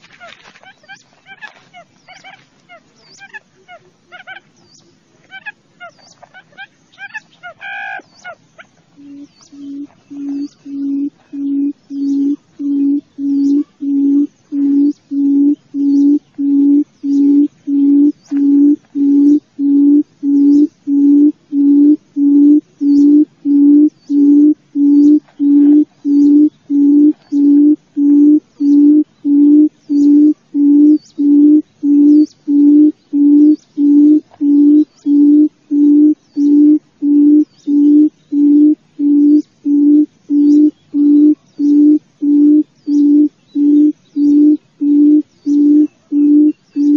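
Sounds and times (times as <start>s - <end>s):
quail booming call: 5.3s - 46.9s.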